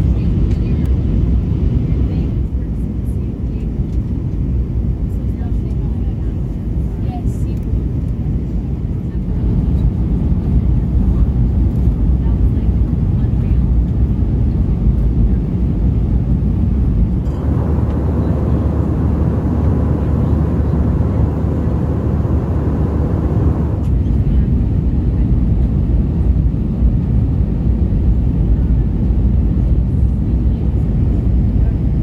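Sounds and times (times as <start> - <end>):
airplane engines rumbling: 0.0 - 32.0.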